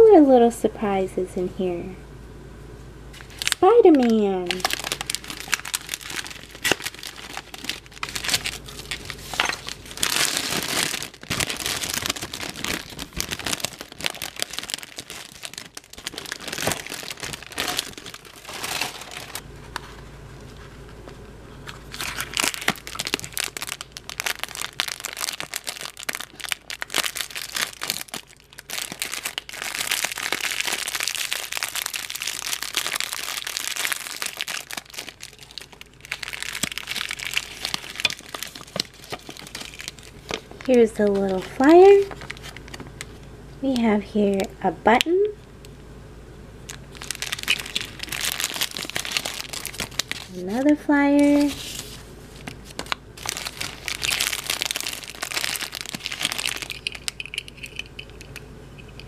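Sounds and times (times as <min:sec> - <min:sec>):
cellophane bag crinkling: 0:03.2 - 0:20.0, 0:21.6 - 0:43.2, 0:46.7 - 0:59.0
foil wrapper crinkling: 0:03.2 - 0:20.9, 0:21.6 - 0:43.3, 0:46.7 - 0:58.3.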